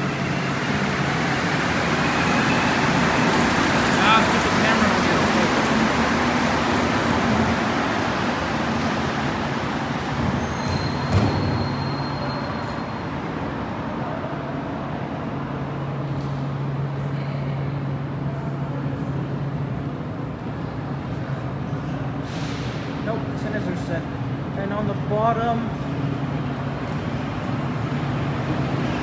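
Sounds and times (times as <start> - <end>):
metro train pulling out: 0.0 - 29.0.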